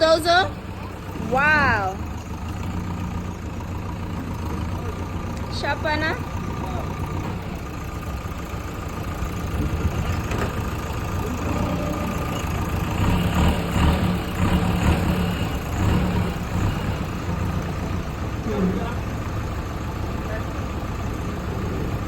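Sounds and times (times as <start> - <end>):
heavy machinery engine running: 0.0 - 22.0.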